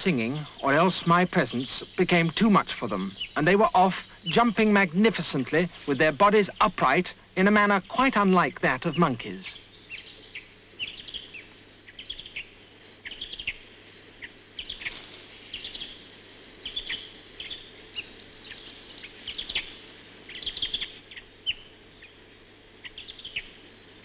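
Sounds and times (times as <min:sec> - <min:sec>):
birds chirping: 0:00.0 - 0:24.0
faint steady hiss: 0:00.0 - 0:24.0.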